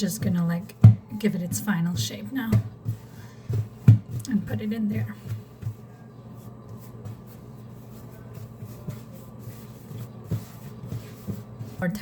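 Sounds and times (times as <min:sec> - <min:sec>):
hands shaping dough: 0:00.0 - 0:12.0.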